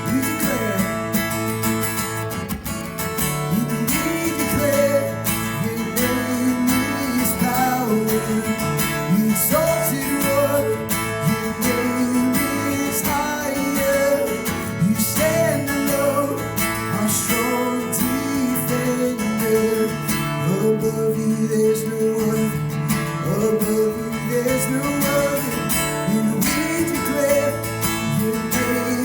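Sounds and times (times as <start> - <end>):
strummed acoustic guitar: 0.0 - 29.0.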